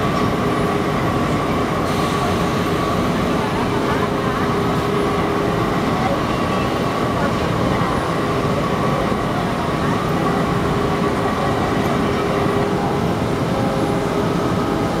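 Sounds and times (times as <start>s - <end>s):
laundry machinery drone: 0.0s - 15.0s.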